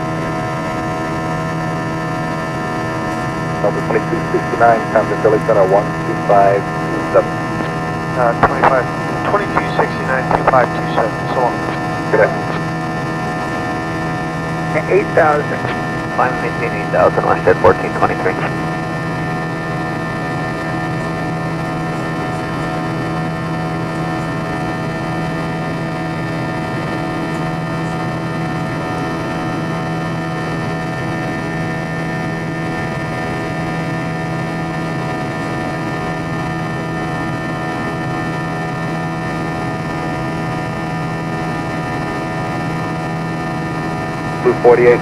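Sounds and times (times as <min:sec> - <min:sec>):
jet engine drone in cabin: 0:00.0 - 0:45.0.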